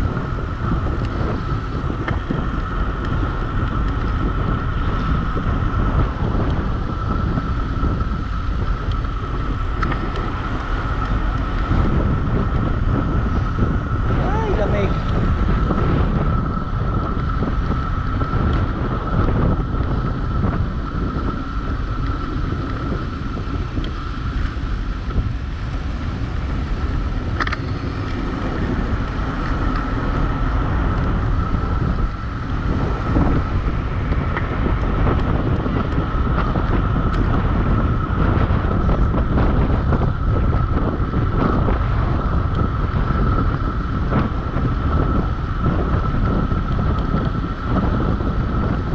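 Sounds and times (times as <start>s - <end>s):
steady high whine: 0.0s - 48.9s
wind buffeting microphone: 0.0s - 48.9s.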